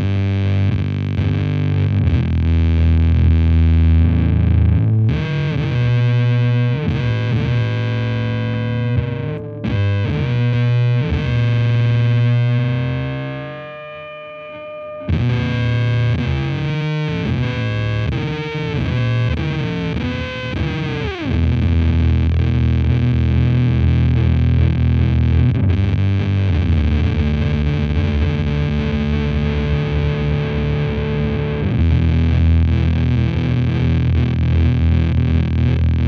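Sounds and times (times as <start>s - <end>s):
fuzzed electric guitar: 0.0s - 36.0s.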